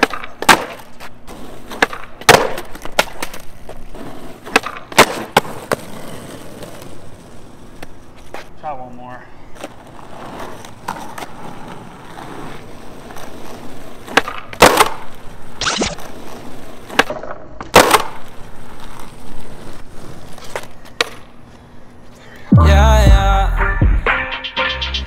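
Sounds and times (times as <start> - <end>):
skateboard clacking on ground: 0.0 - 8.5, 9.5 - 21.6
skateboard wheels rolling on asphalt: 0.0 - 22.5.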